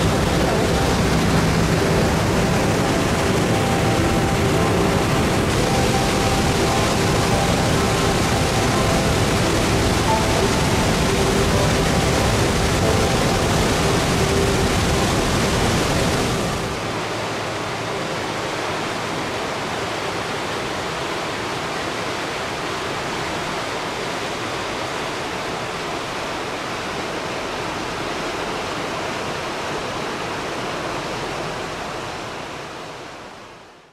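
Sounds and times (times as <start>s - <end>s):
waterfall rushing: 0.0s - 33.6s.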